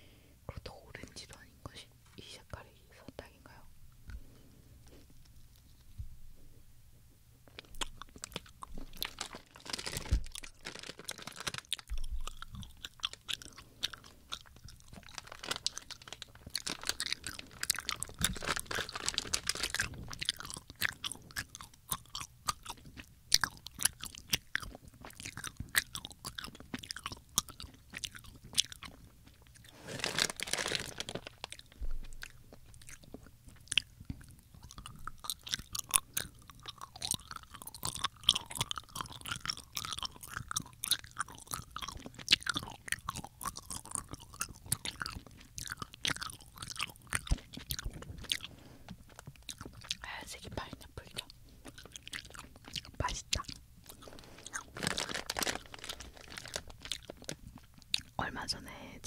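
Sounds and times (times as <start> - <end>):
sticky chewing mouth clicks: 7.5 - 10.4, 11.1 - 29.8, 31.3 - 58.7.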